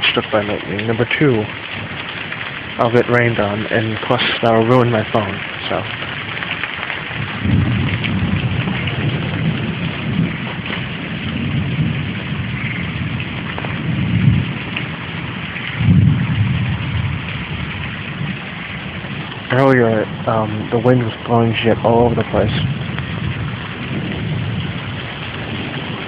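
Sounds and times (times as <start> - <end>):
heavy rain hissing: 0.0 - 26.0
thunder rumbling: 0.0 - 26.0.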